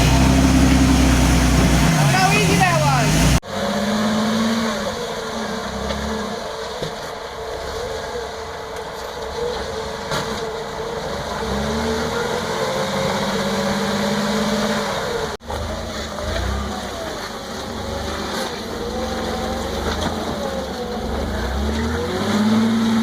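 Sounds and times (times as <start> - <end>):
off-road engine running under load: 0.0 - 23.0.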